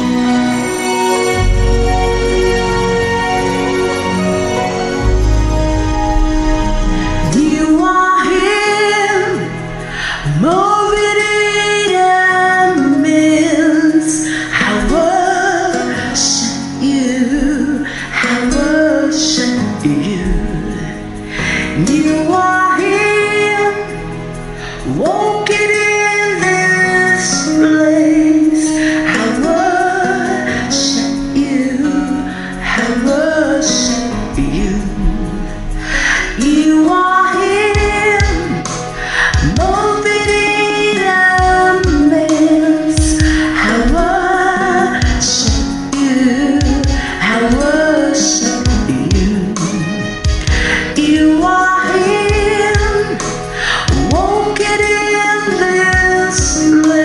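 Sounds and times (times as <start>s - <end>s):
musical accompaniment: 0.0s - 57.0s
woman singing: 4.6s - 57.0s.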